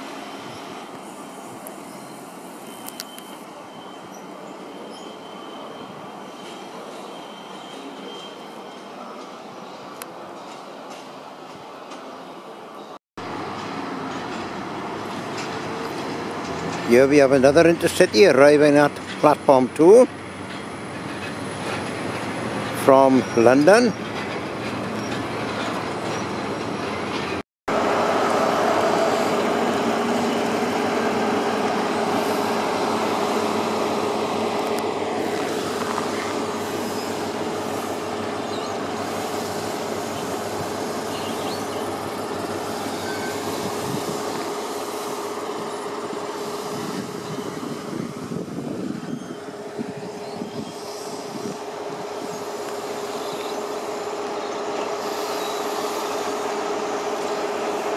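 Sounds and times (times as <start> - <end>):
diesel train running slowly: 0.0 - 57.9
train wheels on rails: 0.0 - 57.9.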